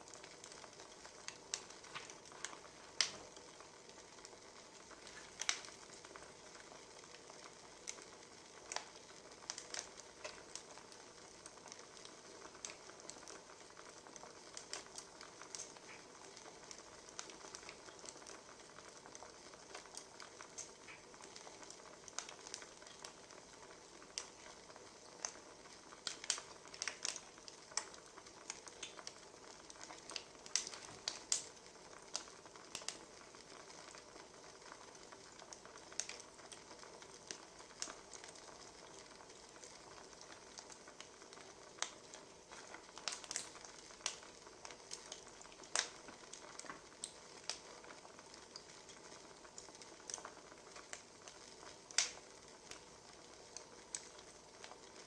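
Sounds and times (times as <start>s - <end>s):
soft steady hiss: 0.0s - 55.0s
wood fire crackling: 0.0s - 55.0s.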